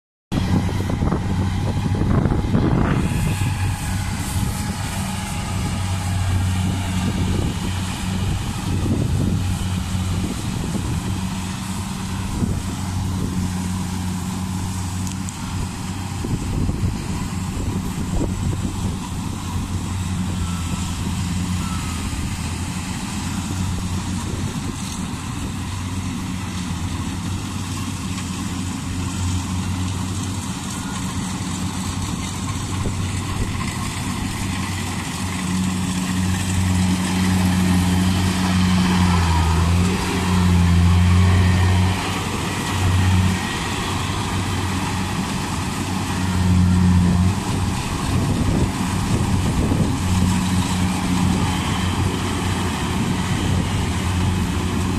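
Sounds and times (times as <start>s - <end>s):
combine harvester engine hum: 0.3s - 54.9s.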